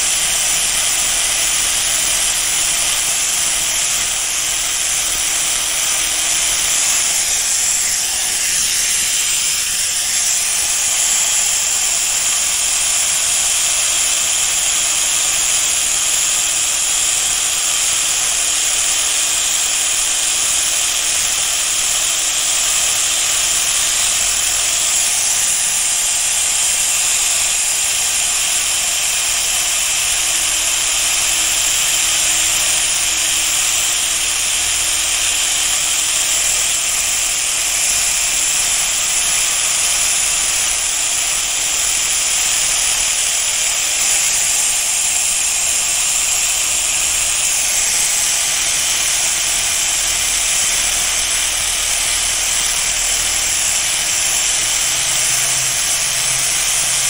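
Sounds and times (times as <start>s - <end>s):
power sander on steel: 0.0s - 57.0s.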